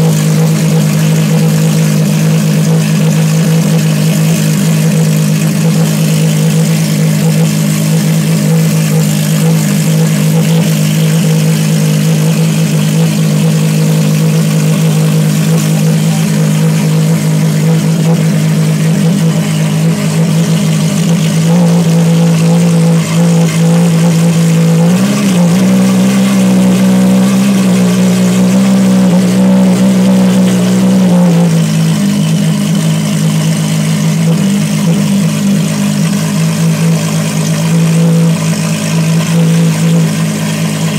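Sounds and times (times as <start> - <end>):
loud car engine running: 0.0 - 40.9.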